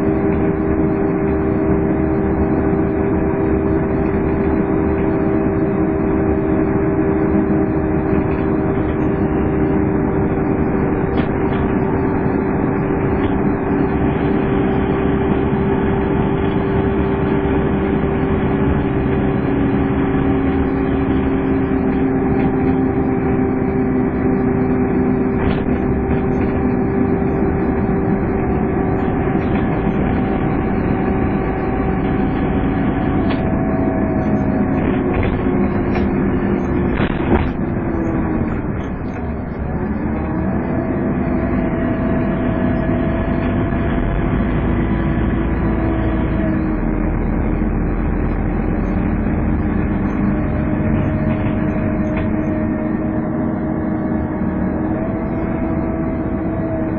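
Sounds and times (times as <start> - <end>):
bus engine running: 0.0 - 56.9
bus whine: 0.0 - 56.9.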